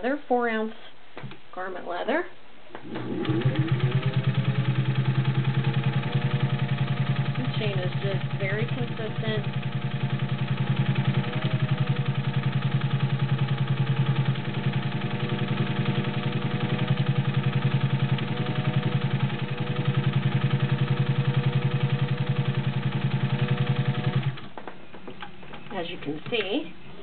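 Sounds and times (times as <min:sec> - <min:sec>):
sewing machine stitching leather: 0:02.8 - 0:24.5.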